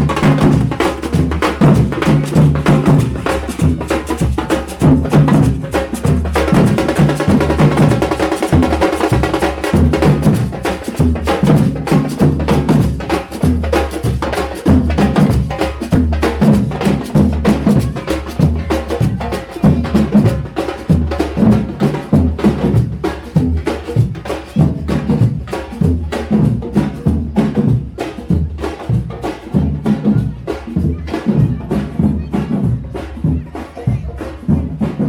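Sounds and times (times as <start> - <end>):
deep drum beats: 0.0 - 35.0.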